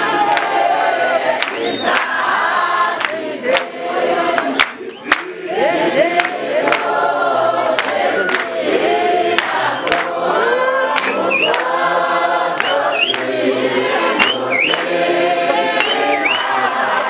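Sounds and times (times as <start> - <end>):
congregation singing: 0.0 - 17.0.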